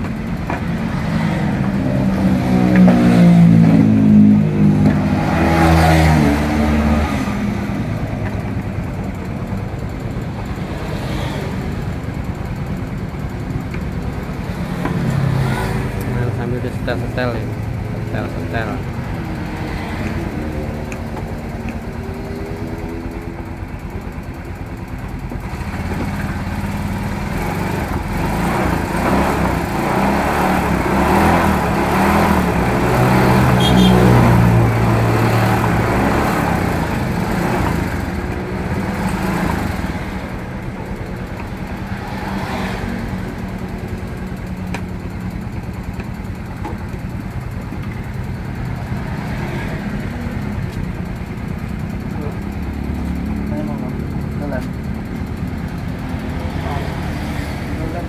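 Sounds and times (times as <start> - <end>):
scooter engine revving: 0.0 - 58.0.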